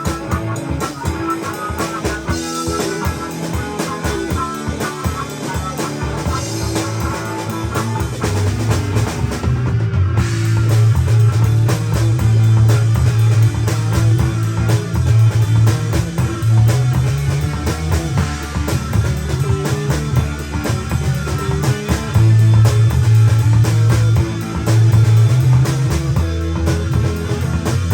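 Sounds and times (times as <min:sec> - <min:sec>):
drum kit beat: 0:00.0 - 0:27.9
guitar: 0:00.0 - 0:27.9
heavy bass line: 0:00.0 - 0:27.9.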